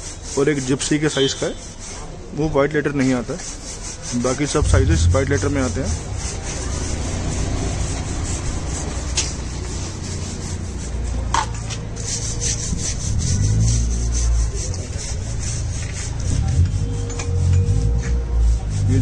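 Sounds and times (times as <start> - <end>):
scrubbing on rubber tyre: 0.0 - 19.0.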